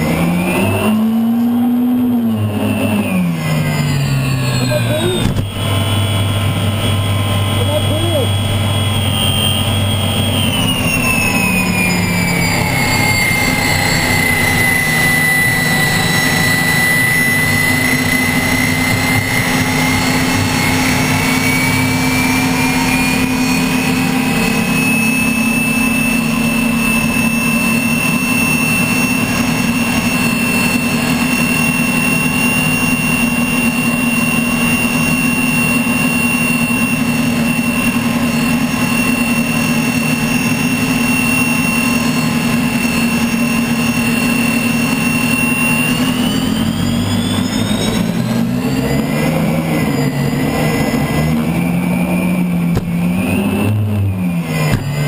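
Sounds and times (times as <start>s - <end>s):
gas turbine engine whine: 0.0s - 55.0s.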